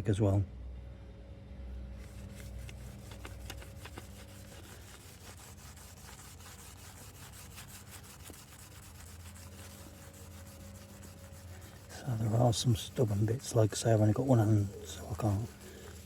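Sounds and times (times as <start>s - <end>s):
rag scrubbing wheel rim: 2.0s - 16.0s.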